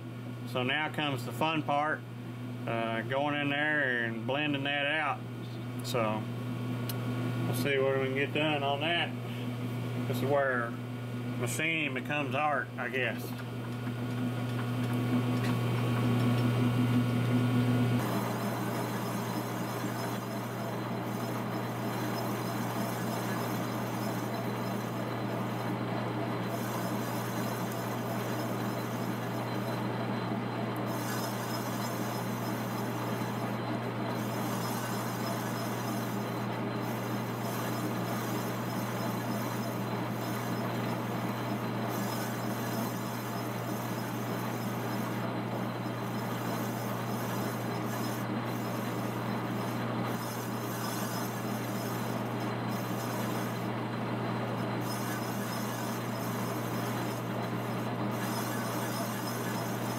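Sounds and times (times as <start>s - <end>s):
metal lathe humming: 4.2s - 59.9s.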